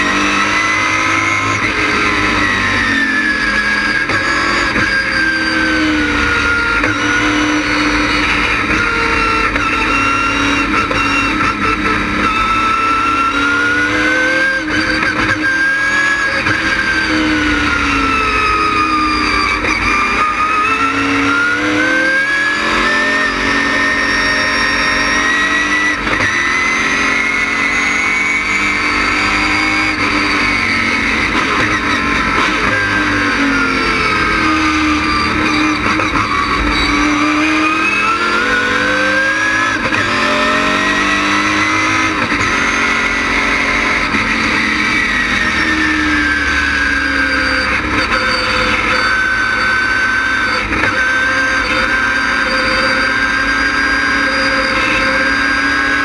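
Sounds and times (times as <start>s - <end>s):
race car engine at speed: 0.0s - 56.0s.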